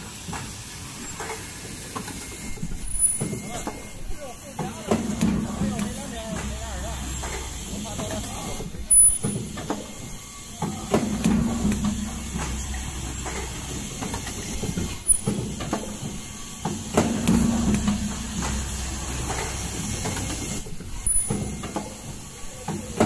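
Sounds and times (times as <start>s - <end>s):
air hissing: 0.0s - 23.0s
machine clicks and clunks: 0.3s - 23.0s
machine humming: 0.7s - 23.0s.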